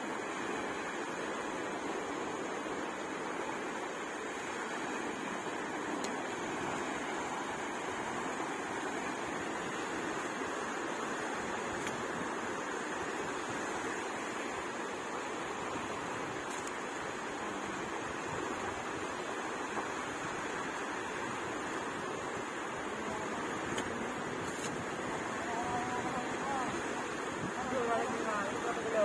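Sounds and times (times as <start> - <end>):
small waves breaking: 0.0 - 29.0.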